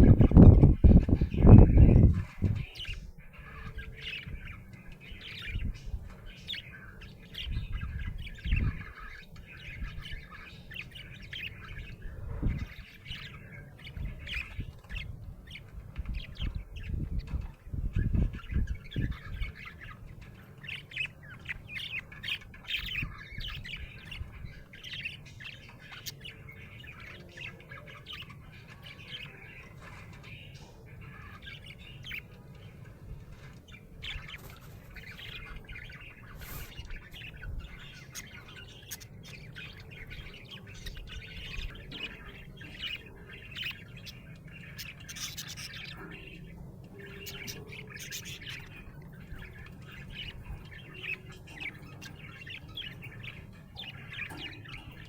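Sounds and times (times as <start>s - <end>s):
budgie chirping and squawking: 0.0s - 55.0s.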